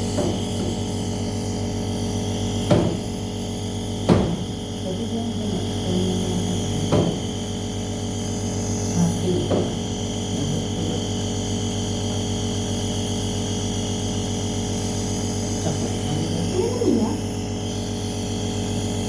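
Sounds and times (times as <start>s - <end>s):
machine electrical hum: 0.0s - 19.0s.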